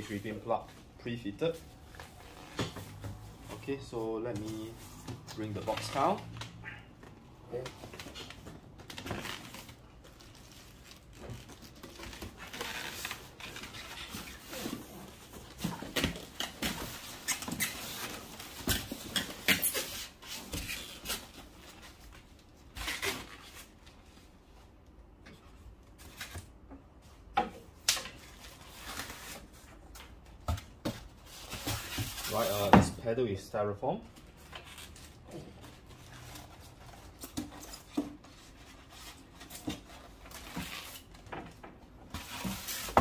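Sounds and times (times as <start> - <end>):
cardboard and foam rustling: 0.0 - 6.3, 7.5 - 24.3, 28.2 - 33.2, 34.1 - 43.0.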